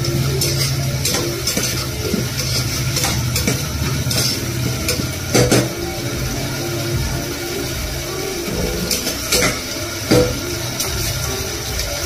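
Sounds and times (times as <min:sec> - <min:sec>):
metal spoon scraping pot: 0:00.0 - 0:06.0, 0:08.3 - 0:12.0
light sizzle of frying: 0:00.0 - 0:12.0.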